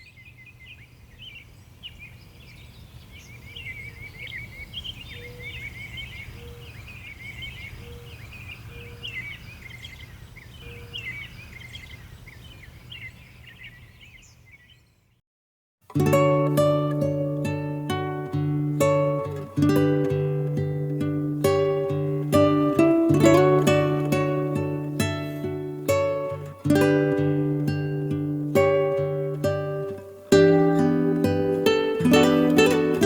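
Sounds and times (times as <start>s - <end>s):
small birds chirping: 0.0s - 15.2s, 16.2s - 33.0s.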